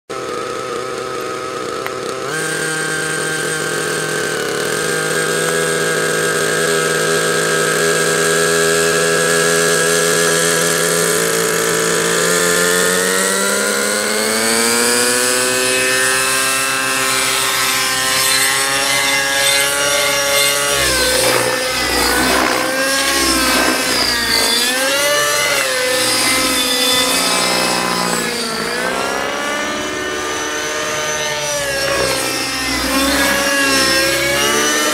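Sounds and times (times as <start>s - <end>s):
model helicopter engine: 0.1s - 34.9s.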